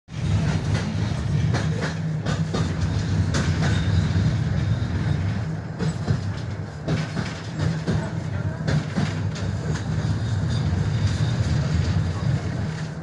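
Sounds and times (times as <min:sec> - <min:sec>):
tram running gear rumble: 0:00.1 - 0:13.0.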